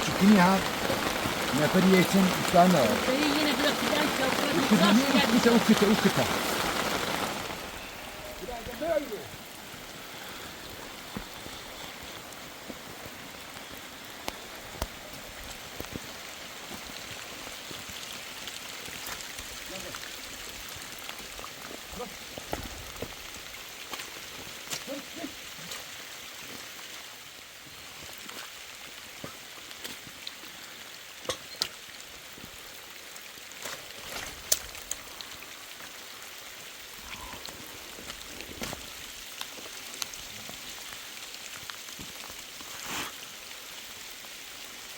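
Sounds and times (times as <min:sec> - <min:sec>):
raindrops tapping close by: 0:00.0 - 0:26.9, 0:27.8 - 0:44.9
steady rain hiss: 0:00.0 - 0:44.9.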